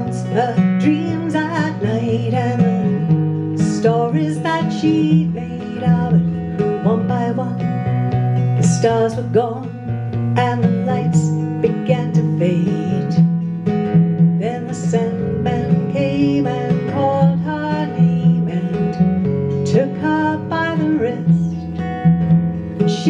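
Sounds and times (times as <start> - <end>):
acoustic guitar: 0.0 - 23.0
electric bass guitar: 0.0 - 23.0
woman singing: 0.0 - 23.0.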